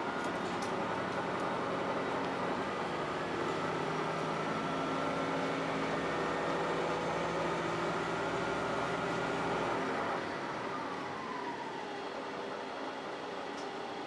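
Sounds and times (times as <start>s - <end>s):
diesel railcar engine running: 0.0s - 14.0s.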